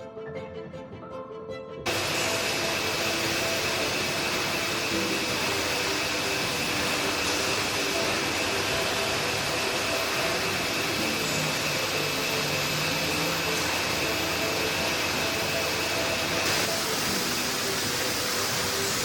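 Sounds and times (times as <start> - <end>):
factory machinery humming and whining: 1.9 - 19.0.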